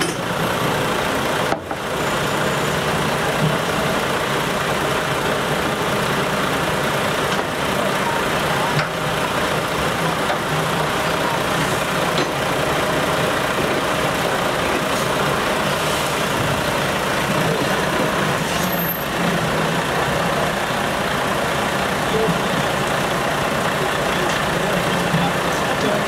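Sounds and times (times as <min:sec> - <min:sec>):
diesel truck engines idling: 0:00.0 - 0:26.0.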